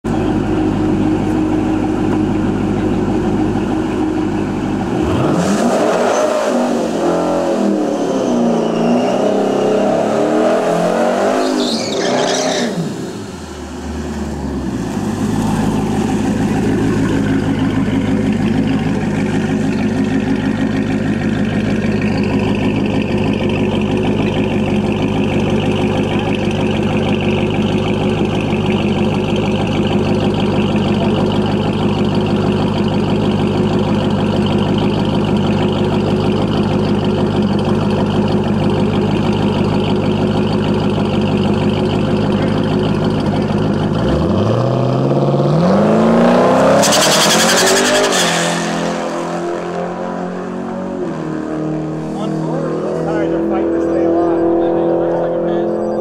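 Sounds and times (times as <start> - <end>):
car engine idling and revving: 0.0 - 56.0
high rising whine: 0.1 - 56.0.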